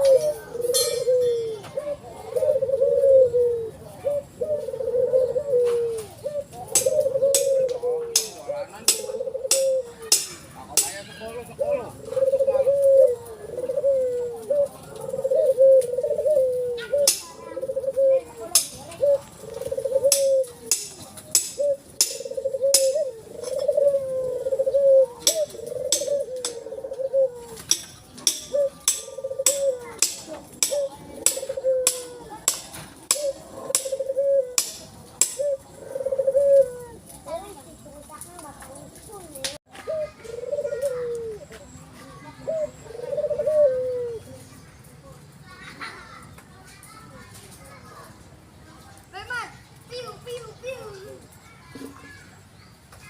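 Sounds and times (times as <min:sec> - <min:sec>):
dove cooing: 0:00.0 - 0:44.6.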